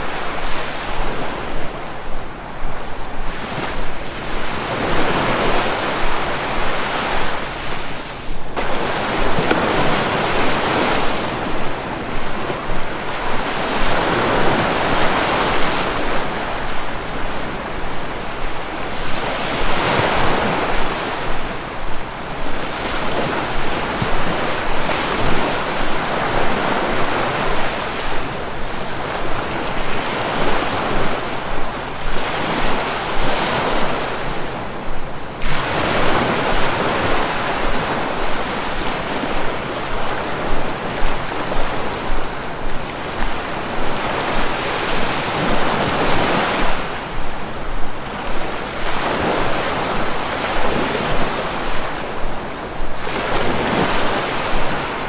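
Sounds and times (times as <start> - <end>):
sea waves rushing: 0.0 - 55.0.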